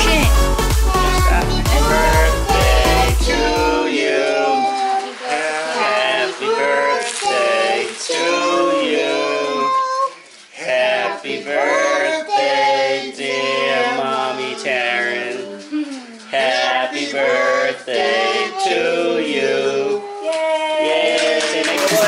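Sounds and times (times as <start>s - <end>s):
voices singing a melody: 0.0s - 22.0s.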